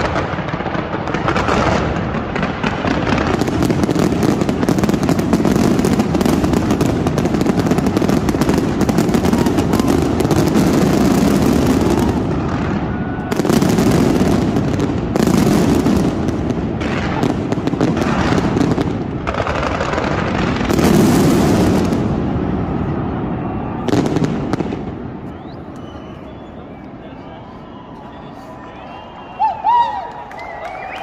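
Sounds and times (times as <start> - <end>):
fireworks crackling and banging: 0.0 - 31.0.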